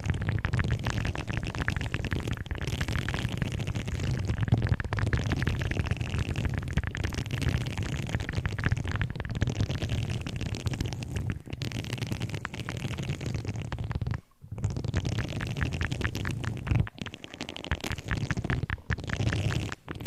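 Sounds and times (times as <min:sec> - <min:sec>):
crackling and scratching: 0:00.0 - 0:20.0.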